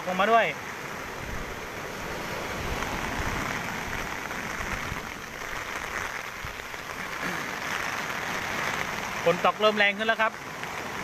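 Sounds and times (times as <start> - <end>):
rain falling: 0.0 - 11.0
sea surf breaking: 0.0 - 11.0.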